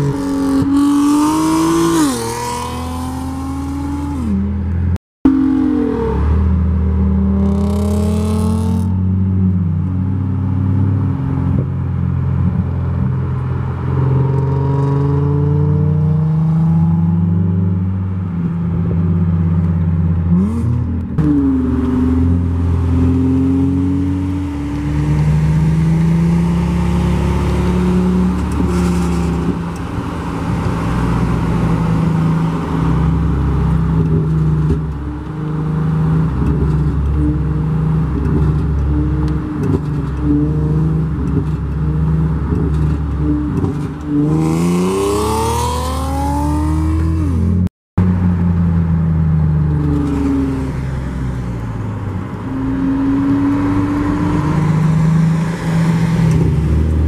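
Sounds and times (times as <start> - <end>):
car engines at full throttle: 0.0 - 57.0.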